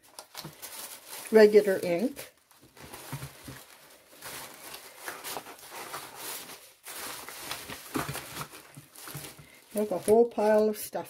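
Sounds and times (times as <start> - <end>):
paper rustling: 0.0 - 10.7.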